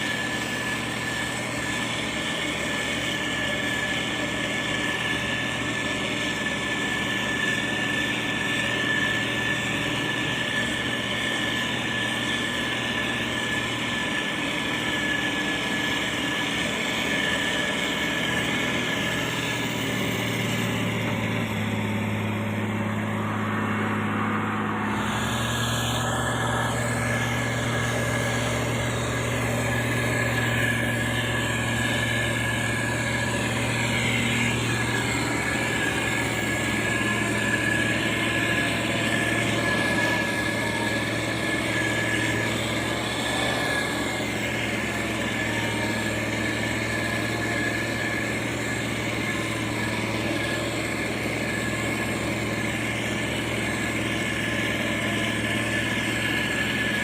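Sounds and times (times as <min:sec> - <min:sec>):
diesel engine humming: 0:00.0 - 0:57.0
high steady whine: 0:00.0 - 0:57.0.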